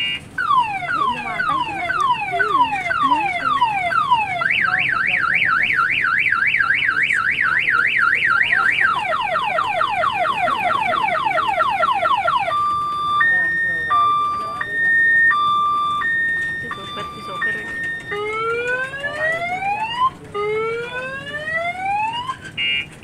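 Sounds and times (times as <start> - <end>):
electronic siren wailing: 0.0 - 22.8.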